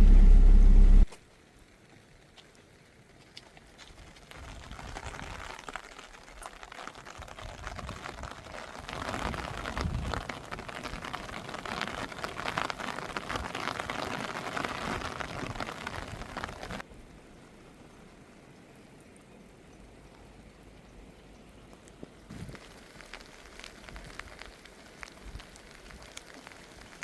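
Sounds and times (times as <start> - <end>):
rain drops hitting a surface: 0.0 - 27.0.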